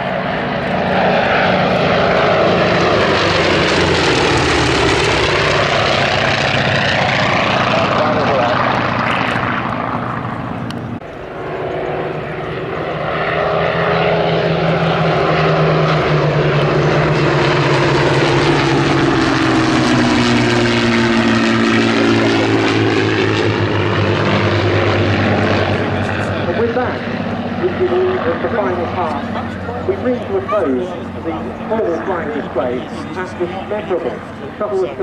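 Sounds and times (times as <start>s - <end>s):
propeller planes droning: 0.0s - 35.0s.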